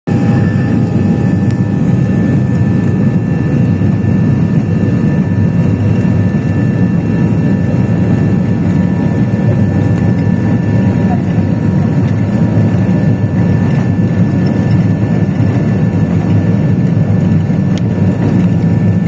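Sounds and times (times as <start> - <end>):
airplane engines roaring: 0.1 - 19.0.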